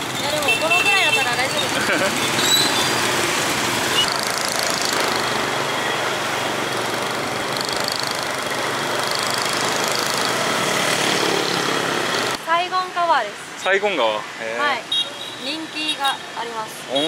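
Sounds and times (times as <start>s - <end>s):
road traffic engine noise: 0.0s - 17.0s.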